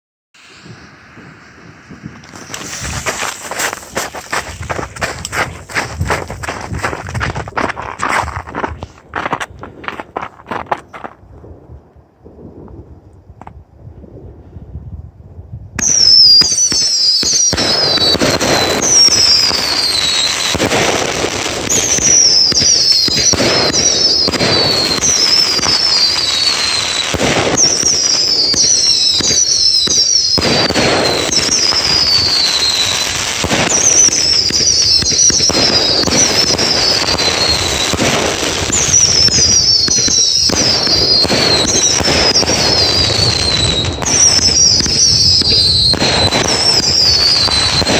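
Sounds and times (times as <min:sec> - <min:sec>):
fireworks whistles falling in pitch: 0:00.4 - 0:07.1, 0:15.8 - 0:47.9
fireworks bangs and crackling: 0:00.4 - 0:11.7, 0:15.8 - 0:47.9.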